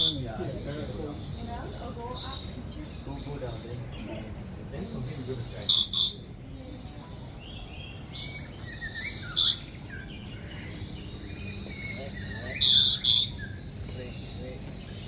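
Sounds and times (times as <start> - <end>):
parrots chirping: 0.0 - 15.0.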